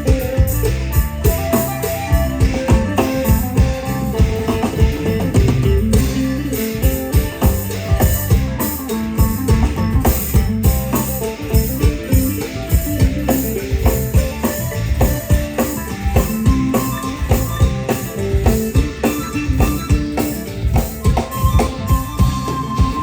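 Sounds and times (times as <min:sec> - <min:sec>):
pitched melody notes: 0:00.0 - 0:23.0
steady drum beat: 0:00.0 - 0:23.0.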